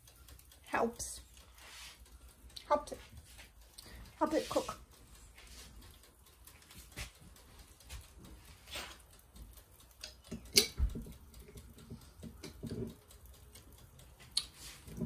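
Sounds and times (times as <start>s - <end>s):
utensils tapping and clicking: 0.0s - 15.0s.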